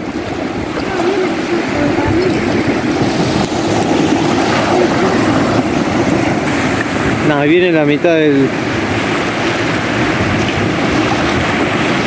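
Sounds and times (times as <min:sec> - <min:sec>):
surf: 0:00.0 - 0:12.0
watercraft engine running: 0:00.0 - 0:12.0
wind noise: 0:00.0 - 0:12.0.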